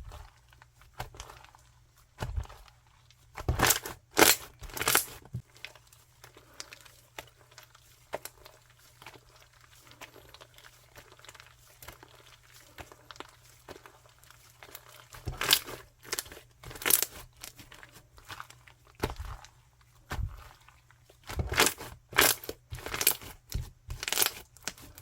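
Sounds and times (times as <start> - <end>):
slime crackling: 0.0 - 25.0.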